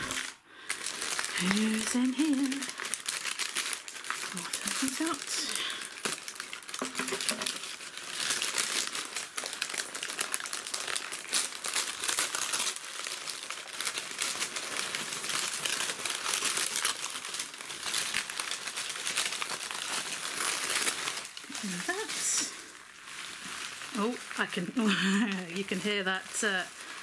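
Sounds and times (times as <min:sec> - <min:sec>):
paper crinkling and rustling: 0:00.0 - 0:27.0.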